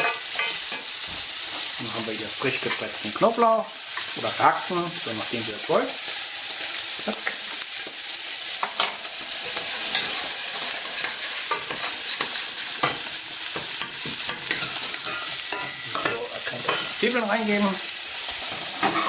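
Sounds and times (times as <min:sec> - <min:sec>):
onion and bacon sizzling in oil: 0:00.0 - 0:19.0.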